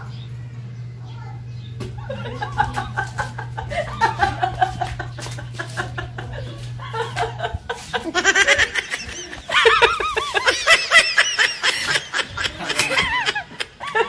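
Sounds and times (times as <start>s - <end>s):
woman laughing hard: 2.0s - 14.0s.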